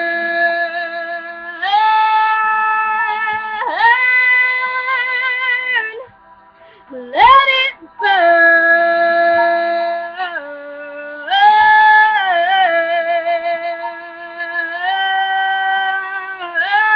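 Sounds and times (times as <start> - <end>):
person singing long wordless notes: 0.0 - 16.9.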